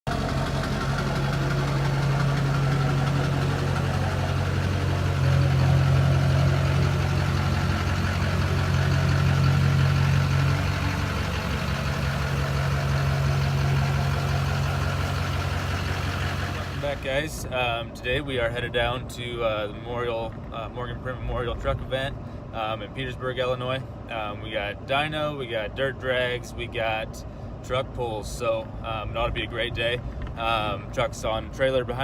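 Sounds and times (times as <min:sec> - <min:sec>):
diesel engine humming: 0:00.1 - 0:32.0.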